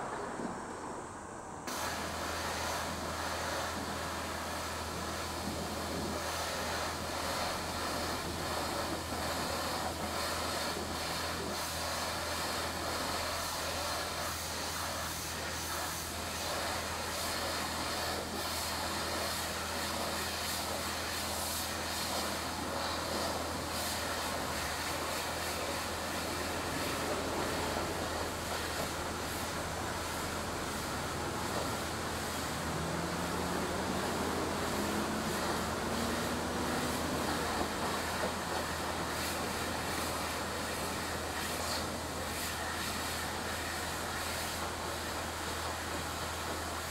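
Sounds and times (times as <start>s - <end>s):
even hiss: 0.0s - 46.9s.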